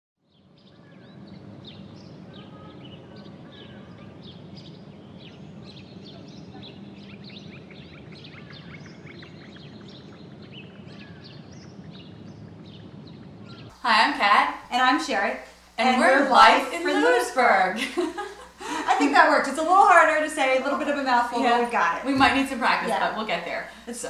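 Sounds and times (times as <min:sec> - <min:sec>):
small birds chirping: 0:00.2 - 0:13.8, 0:14.9 - 0:24.0
low outdoor rumble: 0:00.4 - 0:24.0.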